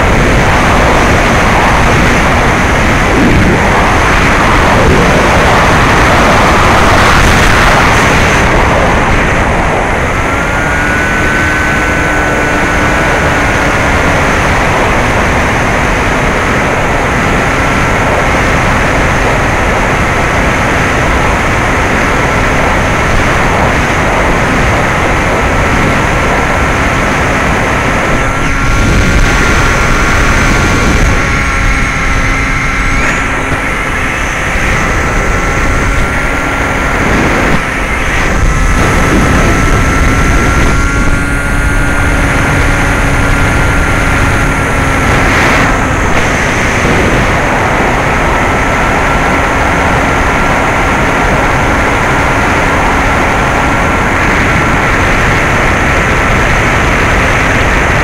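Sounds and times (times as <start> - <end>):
electric motor propeller whine: 0.0 - 58.0
wind rush on microphone: 0.0 - 58.0.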